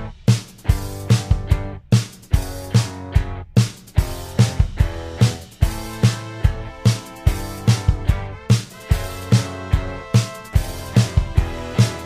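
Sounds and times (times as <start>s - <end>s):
drum kit beating: 0.0s - 12.0s
electric bass riff: 0.0s - 12.0s
electric guitar: 0.0s - 12.0s.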